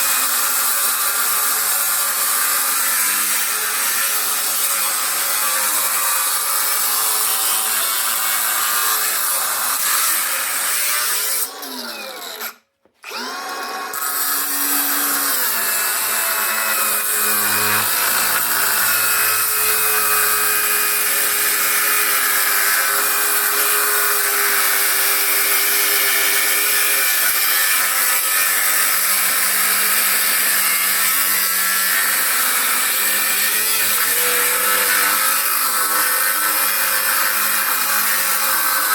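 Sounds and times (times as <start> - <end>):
angle grinder cutting metal: 0.0 - 38.9.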